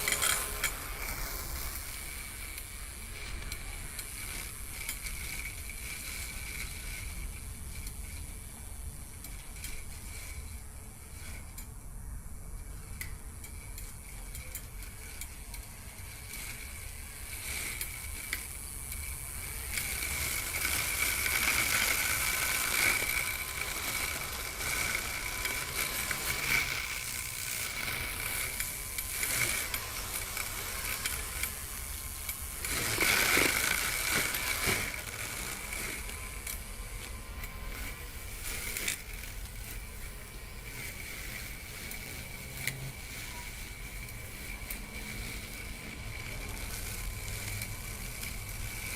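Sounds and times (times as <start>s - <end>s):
electric motor high whine: 0.0s - 11.5s, 13.5s - 48.9s.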